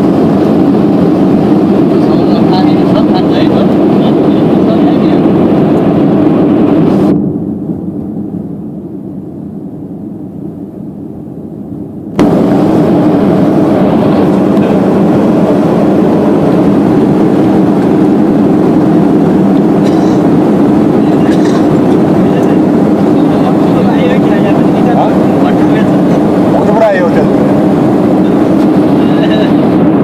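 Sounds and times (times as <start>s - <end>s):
vehicle engine and cabin noise: 0.0s - 30.0s.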